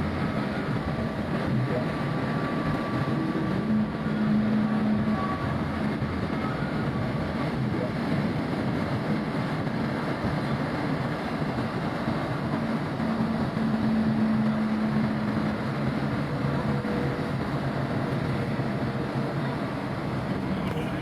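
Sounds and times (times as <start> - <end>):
machinery noise with low hum: 0.0 - 21.0.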